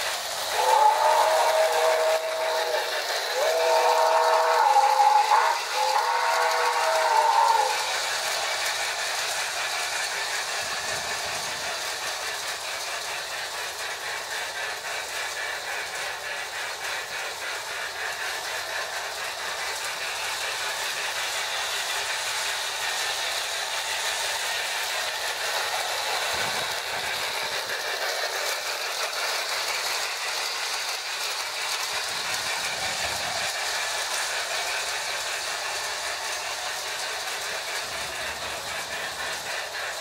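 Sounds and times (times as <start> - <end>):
electronic steam chuff: 0.0 - 40.0
toy train wheels and motors rattling: 0.0 - 40.0.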